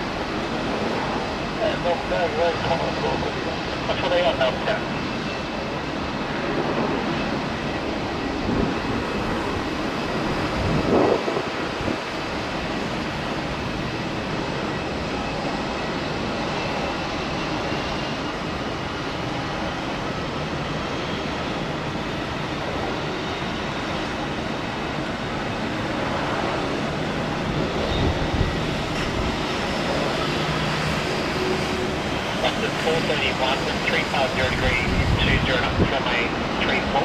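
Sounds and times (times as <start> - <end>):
distant jet engines rushing: 0.0 - 37.0.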